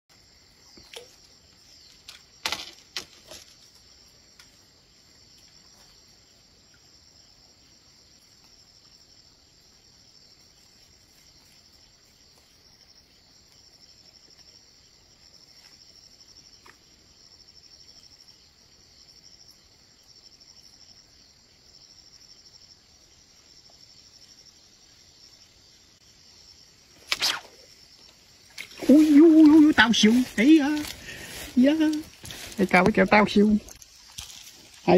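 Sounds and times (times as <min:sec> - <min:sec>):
insects chirping in a pulsing trill: 0:00.1 - 0:34.9.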